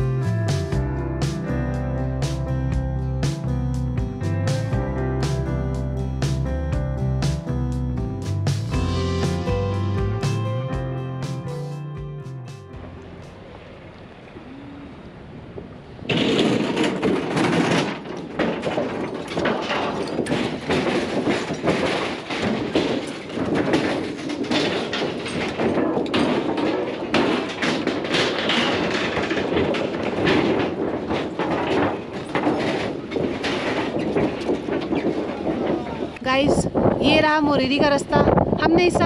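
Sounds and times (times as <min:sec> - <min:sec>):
rattling and knocking: 0:00.0 - 0:13.3, 0:16.0 - 0:39.0
road and wind noise: 0:00.0 - 0:39.0.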